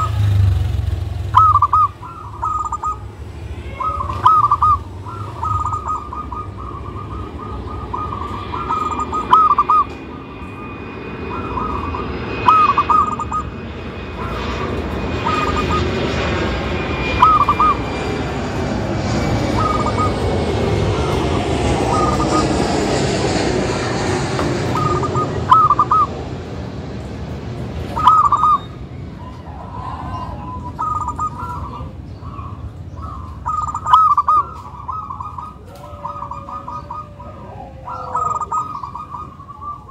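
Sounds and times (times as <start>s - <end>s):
dove cooing: 0.0s - 23.9s, 24.6s - 26.3s, 27.9s - 39.9s
broad rushing noise: 0.0s - 39.9s.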